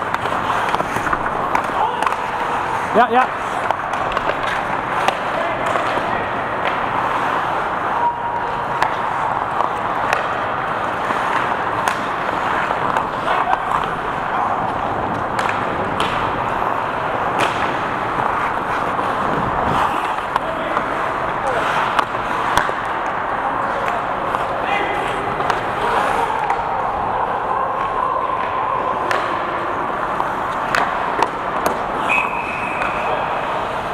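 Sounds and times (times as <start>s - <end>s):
skate blades scraping ice: 0.0s - 26.6s, 27.8s - 33.9s
sticks and puck clicking: 0.0s - 26.8s, 27.8s - 33.9s.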